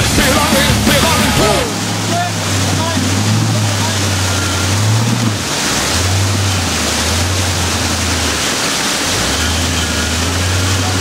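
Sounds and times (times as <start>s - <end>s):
engine droning: 0.0s - 11.0s
rushing creek water: 0.0s - 11.0s.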